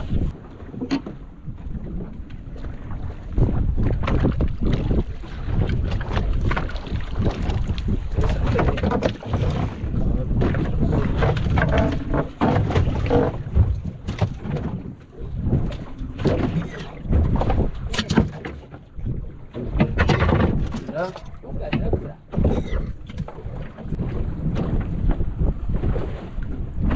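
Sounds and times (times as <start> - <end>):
knocks and thuds on boat: 0.0 - 26.9
wind rumbling on microphone: 0.0 - 26.9.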